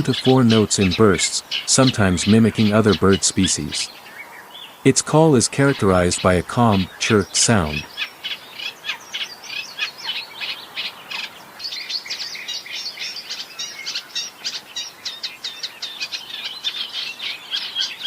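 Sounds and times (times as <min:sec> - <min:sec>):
reed warbler singing: 0:00.0 - 0:18.0.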